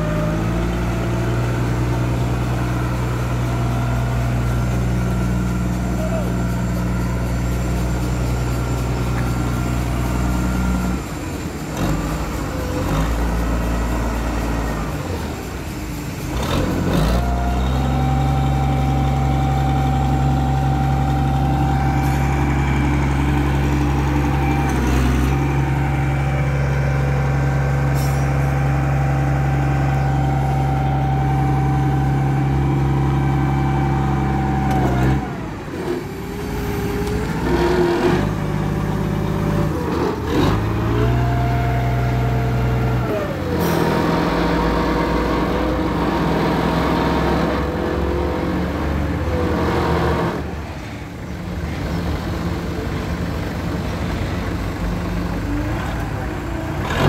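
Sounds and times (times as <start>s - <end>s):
hydraulic mast whine: 0.0s - 50.6s
forklift engine running: 0.0s - 57.0s.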